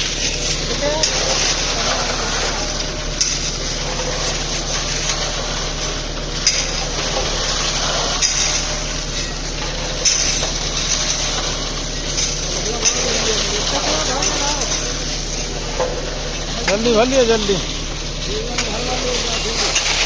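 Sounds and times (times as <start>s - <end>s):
low machine hum: 0.0s - 20.0s
wet concrete being mixed and shovelled: 0.0s - 20.0s.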